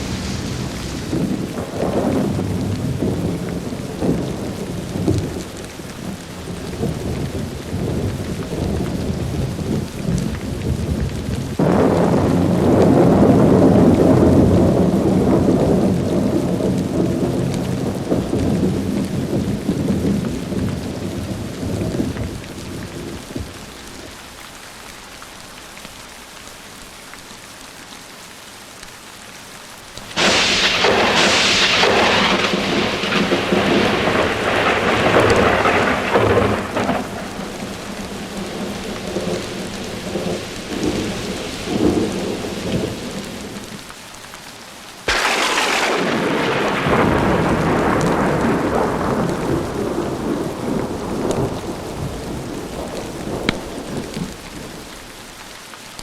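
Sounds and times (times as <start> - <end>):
sharp thunder crack: 0.0 - 5.5, 6.7 - 23.5, 30.0 - 43.7, 45.1 - 54.8
rolling thunder: 0.0 - 23.7, 30.0 - 43.8, 45.1 - 54.9
steady rain: 0.0 - 56.0.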